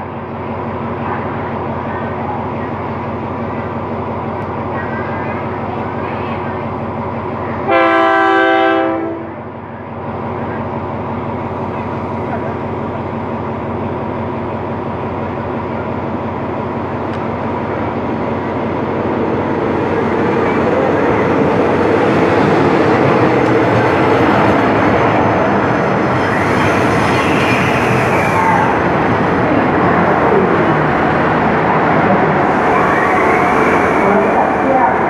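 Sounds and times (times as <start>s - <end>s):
diesel train approaching: 0.0s - 35.0s.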